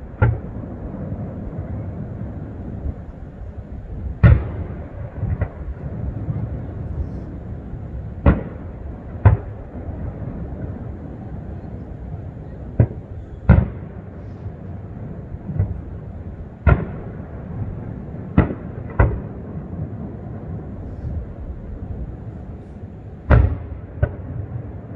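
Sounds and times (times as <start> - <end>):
distant fireworks bangs: 0.0 - 24.9
low background noise: 0.0 - 24.9.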